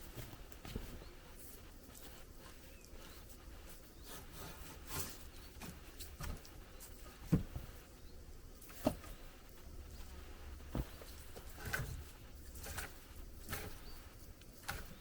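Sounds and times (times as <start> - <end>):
rustles: 0.0 - 15.0.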